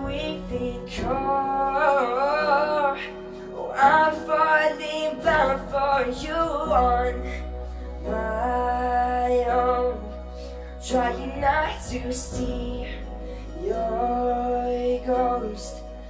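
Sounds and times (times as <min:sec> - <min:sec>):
keyboard accompaniment: 0:00.0 - 0:16.0
man singing pop ballad: 0:00.0 - 0:16.0.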